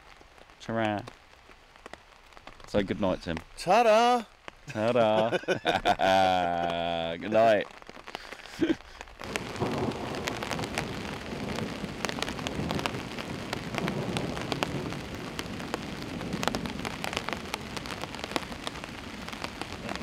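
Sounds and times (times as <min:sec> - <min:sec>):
rain falling on a tarp: 0:00.0 - 0:20.0.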